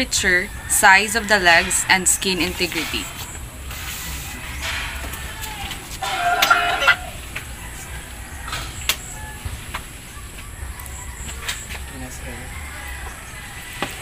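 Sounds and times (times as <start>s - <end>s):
rooster crowing: 0.1s - 3.1s, 4.3s - 14.0s.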